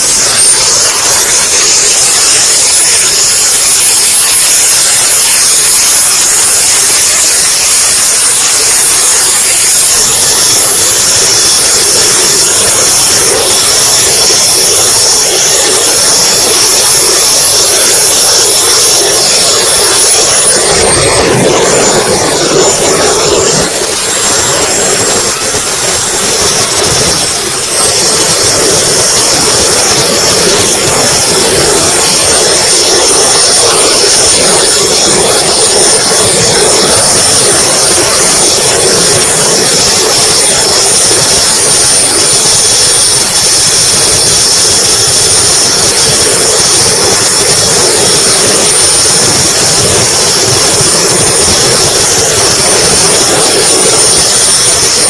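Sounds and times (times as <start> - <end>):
rush of air and exhaust: 0.0 - 55.0
small turbine engine whine: 0.0 - 55.0.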